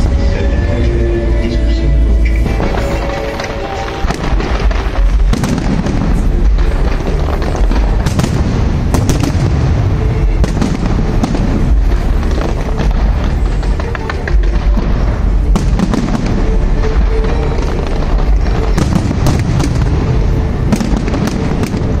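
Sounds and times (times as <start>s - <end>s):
fireworks booming and crackling: 2.2s - 22.0s.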